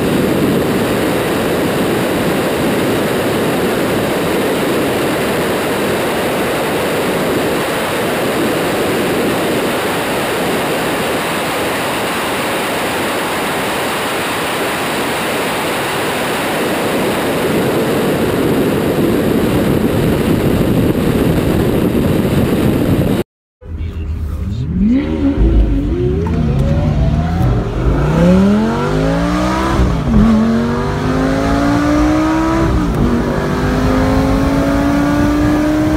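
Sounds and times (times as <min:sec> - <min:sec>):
car engine: 0:00.0 - 0:15.3, 0:15.9 - 0:35.9
wind and road noise: 0:00.0 - 0:35.9.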